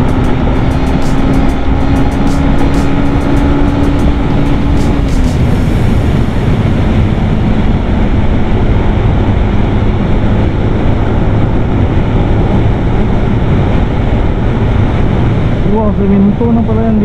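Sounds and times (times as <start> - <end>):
motorcycle engine hum: 0.0 - 17.0
wind rushing over microphone: 0.0 - 17.0.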